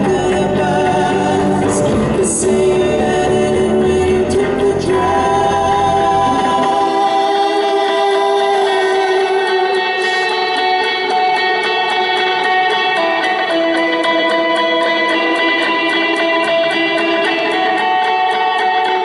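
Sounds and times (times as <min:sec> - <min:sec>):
electric guitar: 0:00.0 - 0:19.0
long held sung notes: 0:00.0 - 0:19.0.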